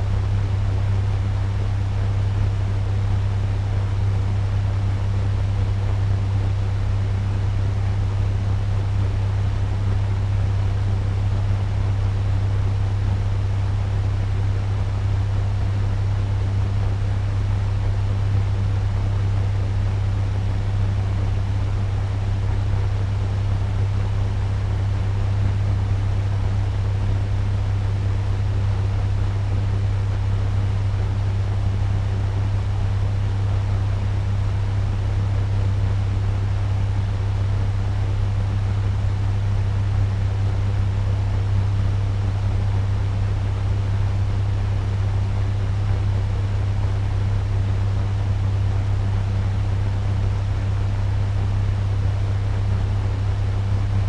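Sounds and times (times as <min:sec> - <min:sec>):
fan whooshing air: 0:00.0 - 0:54.0.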